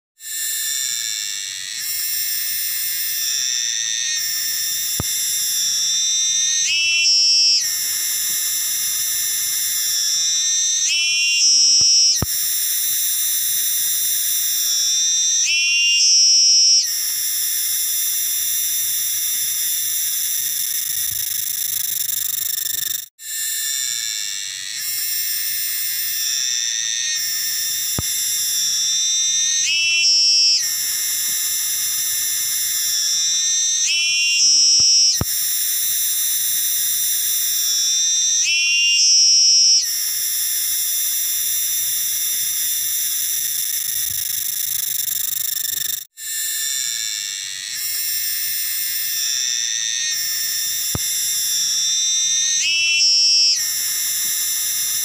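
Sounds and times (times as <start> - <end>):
cicada buzzing: 0.2 - 55.0.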